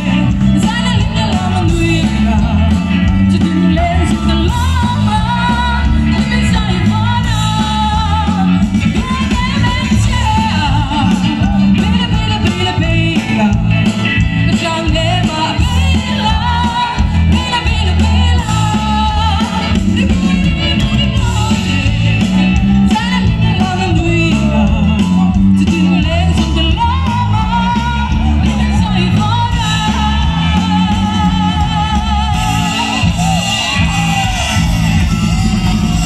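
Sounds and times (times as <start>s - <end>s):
electric guitars: 0.0s - 36.0s
heavy bass line: 0.0s - 36.0s
lead vocal singing: 0.0s - 36.0s.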